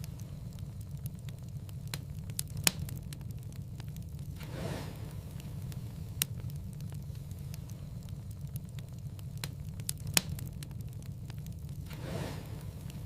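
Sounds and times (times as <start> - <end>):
fire crackles and pops: 0.0 - 13.0
low rumble of flames: 0.0 - 13.0.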